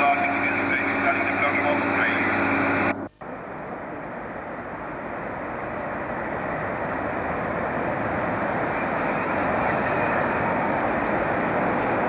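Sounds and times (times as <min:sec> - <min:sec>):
diesel locomotive rumble: 0:00.0 - 0:12.0
train engine hum: 0:00.0 - 0:12.0.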